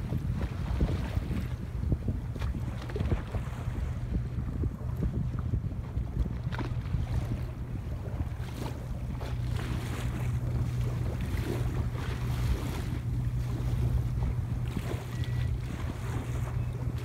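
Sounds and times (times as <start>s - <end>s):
water lapping against seawall: 0.0s - 17.0s
wind buffeting microphone: 0.0s - 17.0s.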